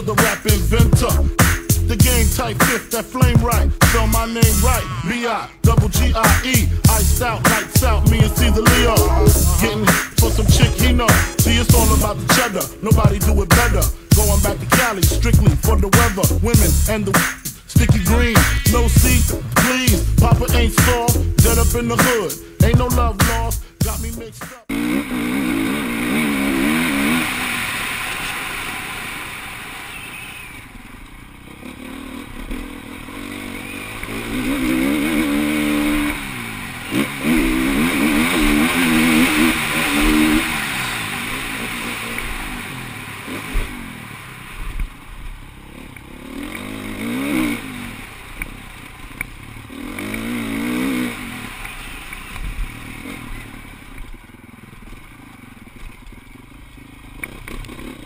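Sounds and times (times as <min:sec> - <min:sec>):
motocross bike engines revving: 0:00.0 - 0:55.7, 0:56.3 - 0:58.0.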